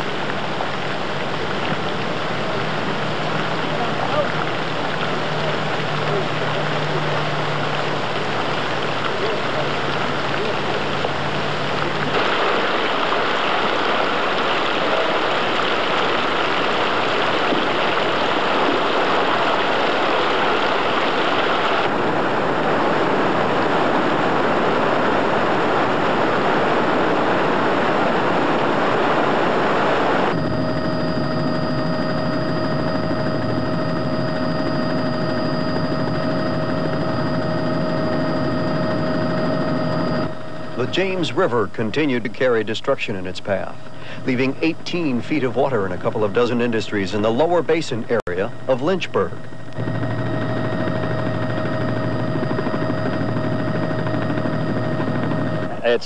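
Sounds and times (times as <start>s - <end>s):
aircraft engine drone with whine: 0.0s - 56.0s
rushing floodwater: 0.0s - 56.0s.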